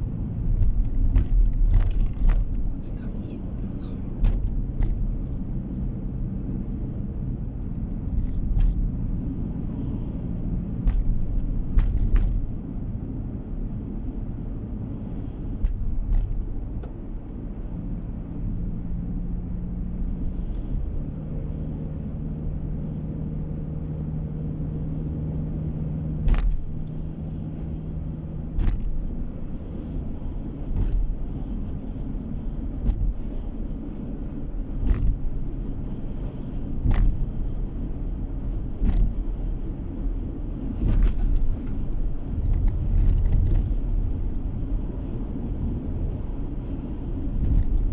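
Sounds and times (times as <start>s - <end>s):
rattles and knocks in car: 0.0s - 21.2s, 25.0s - 47.9s
car engine and tyre rumble: 0.0s - 47.9s.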